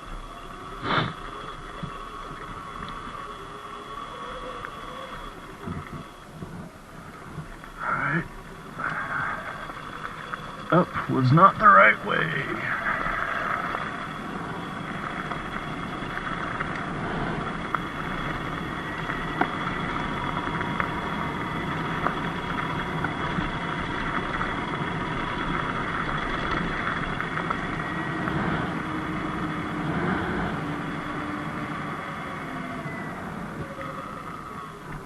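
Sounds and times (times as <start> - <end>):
electric motor whine: 0.0 - 35.0
rush of riding noise: 0.0 - 35.0.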